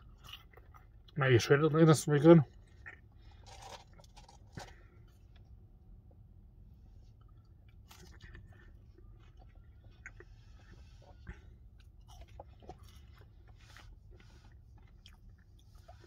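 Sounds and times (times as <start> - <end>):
man chewing chips: 0.0 - 16.0.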